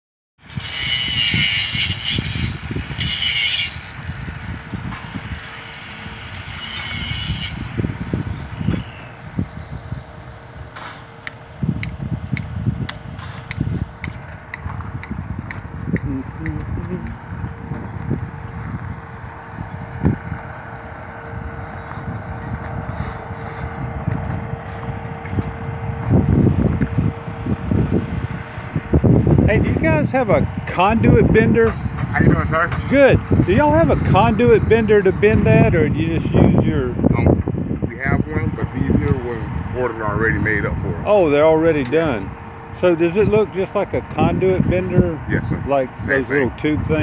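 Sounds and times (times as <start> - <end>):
engine humming: 0.4 - 47.0
wind on microphone: 0.4 - 47.0
low rumbling bumps: 7.2 - 47.0.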